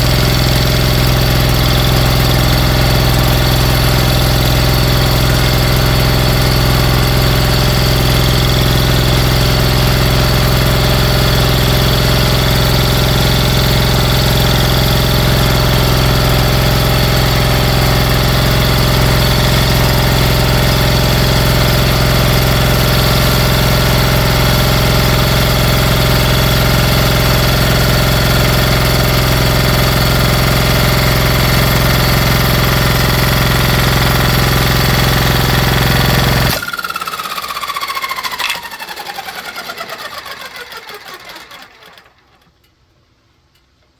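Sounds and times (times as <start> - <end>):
engine running steadily: 0.0 - 42.4.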